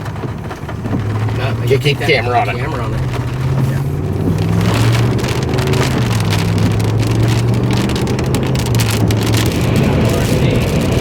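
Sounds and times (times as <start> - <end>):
rain ticking on car: 0.0 - 11.0
vehicle engine humming: 0.0 - 11.0.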